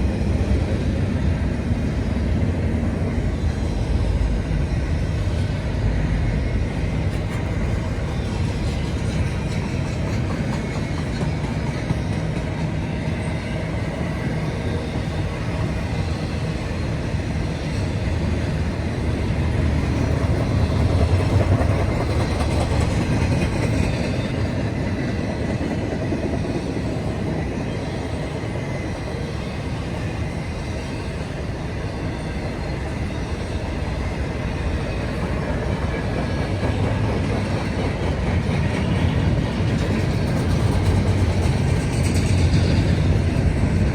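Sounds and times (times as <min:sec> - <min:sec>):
freight train wheels clattering: 0:00.0 - 0:43.9.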